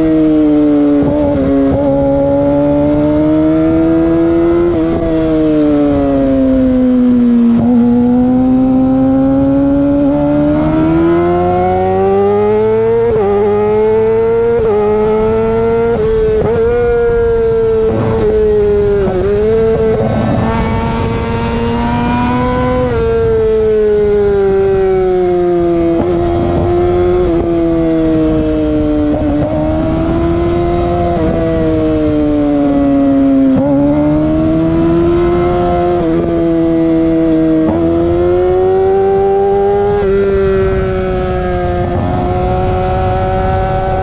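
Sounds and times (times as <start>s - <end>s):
motor vehicle engine revving: 0.0s - 44.0s.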